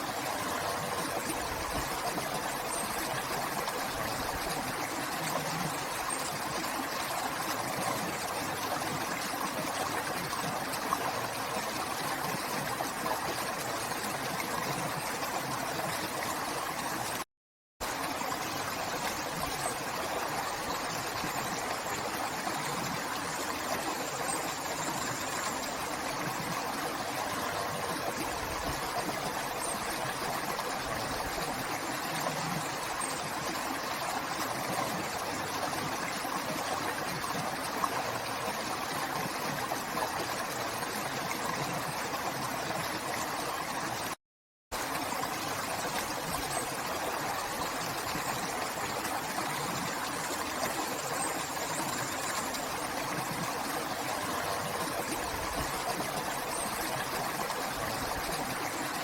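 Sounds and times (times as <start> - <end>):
river water flowing over rocks: 0.0 - 17.2, 17.8 - 44.2, 44.8 - 59.0.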